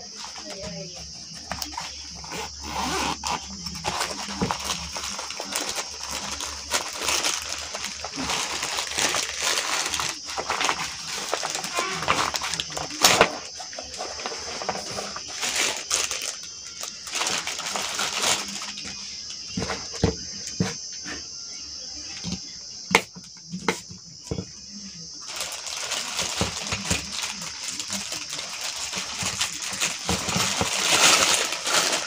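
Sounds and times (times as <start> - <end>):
plastic wrap and bag rustling: 0.0 - 20.7, 25.2 - 32.0.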